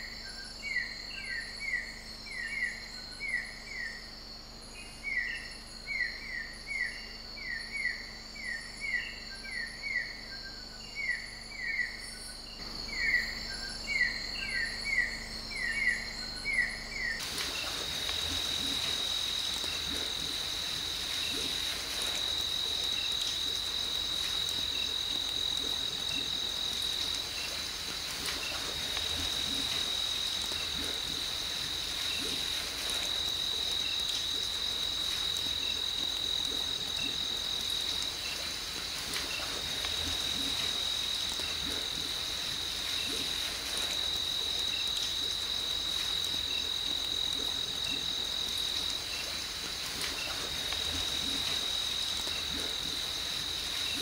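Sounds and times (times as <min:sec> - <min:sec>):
faint insect chirps: 0:00.0 - 0:54.0
insect high-pitched trill: 0:00.0 - 0:54.0.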